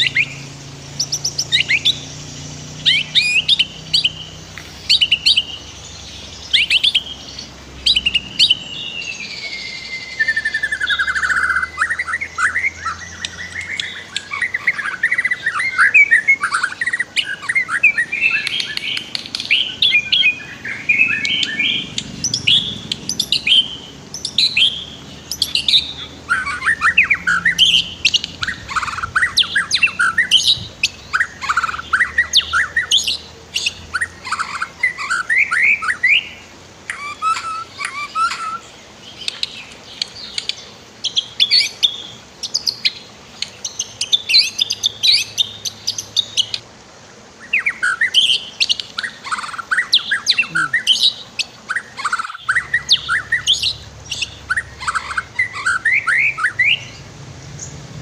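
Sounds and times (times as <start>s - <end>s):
bird singing whistled song: 0.0s - 46.6s, 47.4s - 57.0s.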